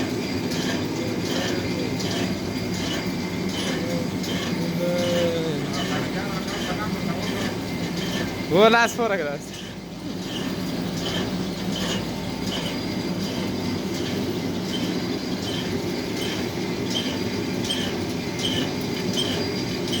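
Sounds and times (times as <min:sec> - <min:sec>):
lathe running: 0:00.0 - 0:20.0.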